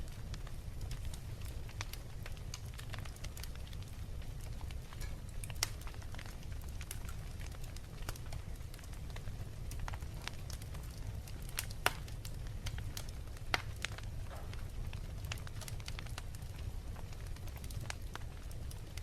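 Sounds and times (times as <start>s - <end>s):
fireplace fire crackling: 0.0s - 19.0s
flames rumbling: 0.0s - 19.0s.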